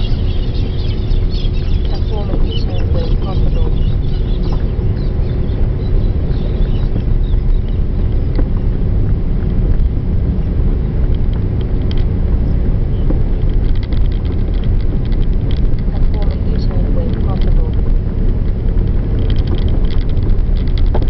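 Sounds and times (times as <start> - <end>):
car engine and road rumble: 0.0 - 21.0
light rattles and clicks: 0.0 - 21.0.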